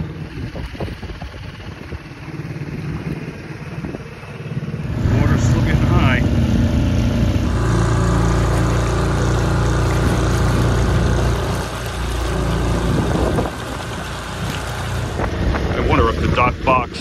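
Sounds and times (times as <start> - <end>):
outboard motor running: 0.0 - 17.0
water rushing along hull: 0.0 - 17.0.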